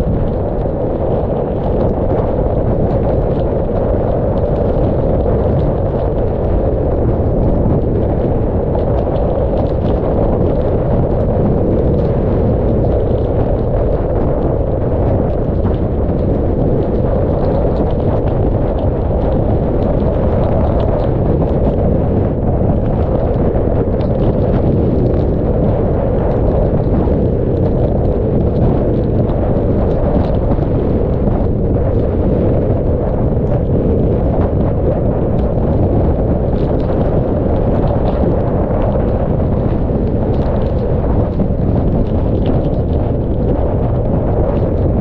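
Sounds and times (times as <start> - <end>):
faint rain ticks: 0.0 - 45.0
wind roaring across microphone: 0.0 - 45.0.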